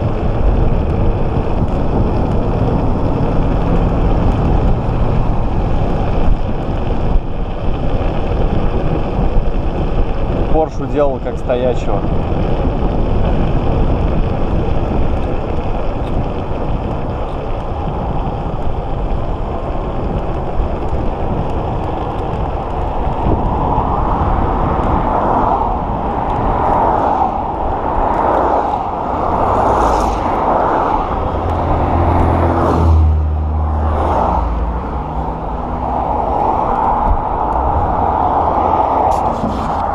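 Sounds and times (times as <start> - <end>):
cars passing: 0.0 - 39.9
low engine drone: 0.0 - 39.9
wind and road noise rumble: 0.0 - 39.9.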